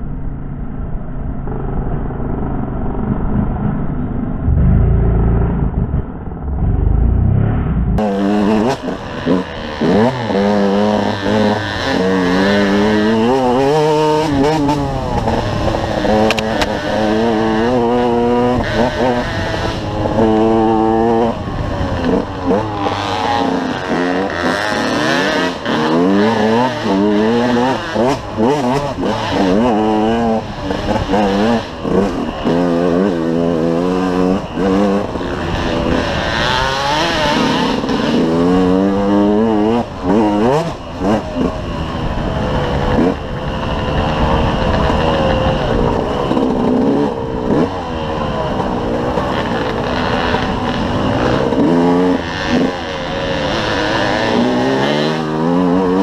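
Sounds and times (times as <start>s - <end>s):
dirt bike engine revving: 3.3s - 56.0s.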